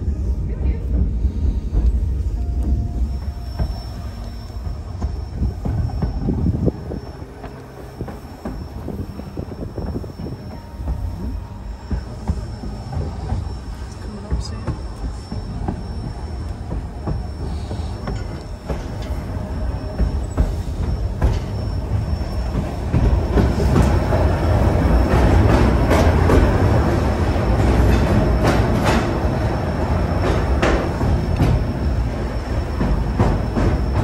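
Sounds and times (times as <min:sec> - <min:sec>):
train rumbling on track: 0:00.0 - 0:34.0
wheels and couplings clanking: 0:00.6 - 0:34.0.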